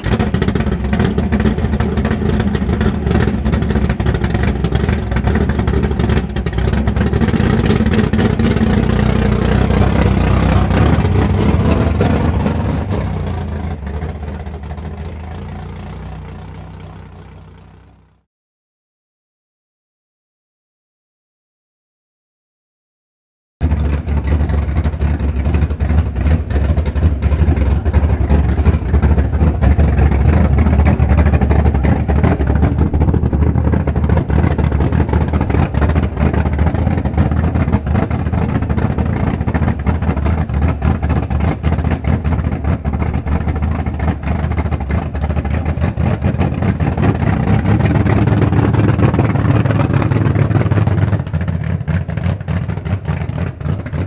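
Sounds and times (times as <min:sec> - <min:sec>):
racing car engine idling: 0:00.0 - 0:18.2, 0:23.6 - 0:54.0.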